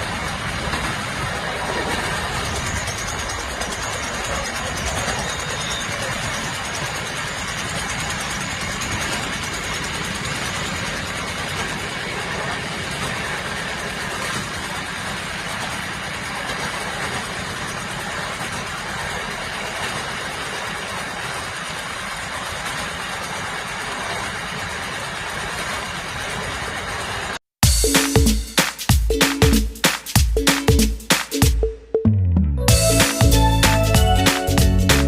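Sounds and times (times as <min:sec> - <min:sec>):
train running on rails: 0:00.0 - 0:29.8, 0:32.7 - 0:35.0.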